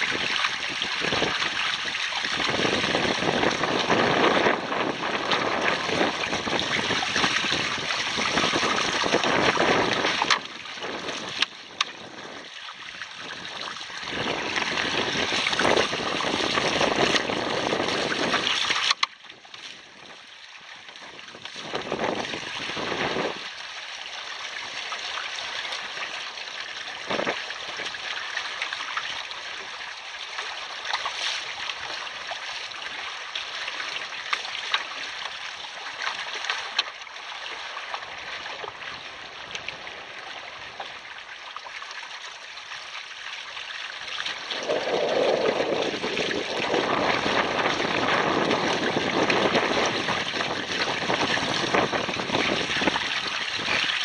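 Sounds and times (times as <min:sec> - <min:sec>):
water rushing along boat hulls: 0:00.0 - 0:54.0.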